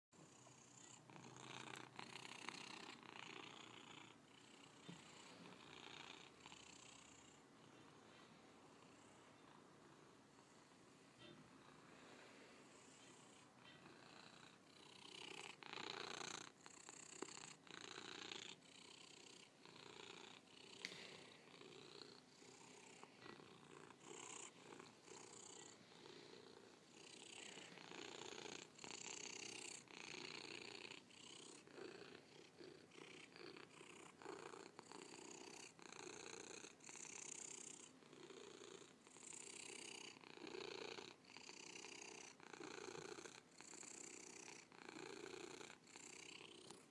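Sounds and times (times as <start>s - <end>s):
cat purring: 0.2s - 46.9s.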